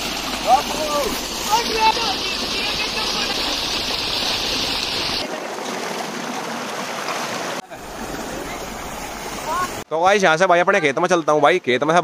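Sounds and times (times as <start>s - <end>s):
water gushing into tank: 0.0s - 9.8s.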